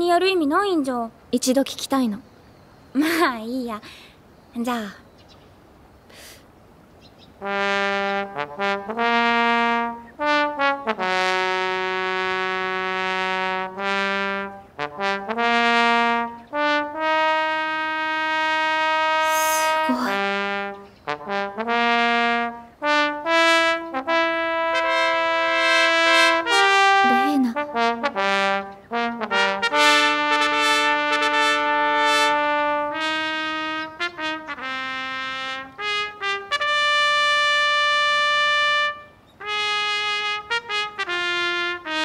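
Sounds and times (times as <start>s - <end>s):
trombone playing slow melody: 7.4s - 42.0s.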